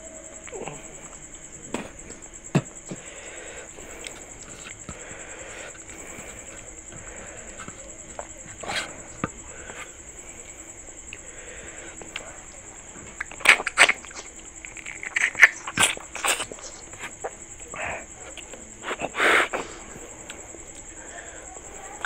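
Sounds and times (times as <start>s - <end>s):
high insect trill: 0.0s - 22.0s
fingers squishing food on plate: 0.4s - 22.0s.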